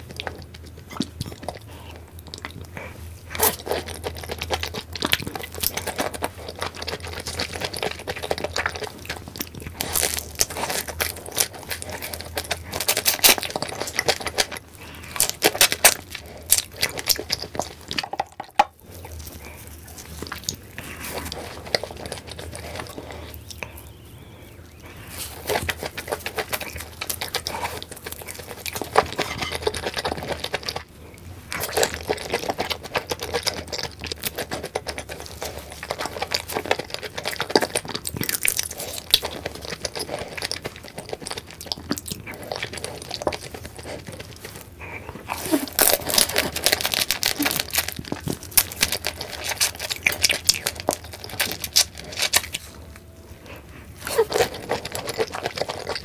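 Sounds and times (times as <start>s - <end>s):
person chewing crunchy shrimp: 0.0s - 56.0s.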